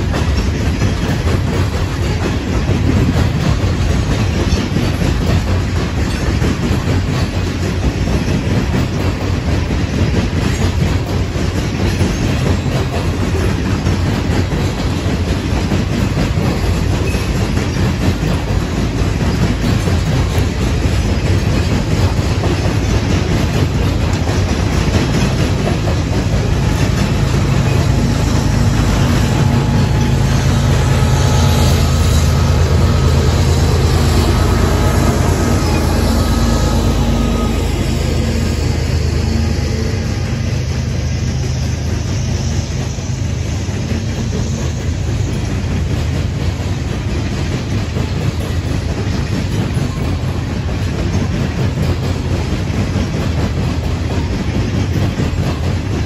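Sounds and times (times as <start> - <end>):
diesel locomotive engine drone: 0.0 - 56.0
freight train cars rolling: 0.0 - 56.0
steel wheels clacking on rail: 0.0 - 56.0.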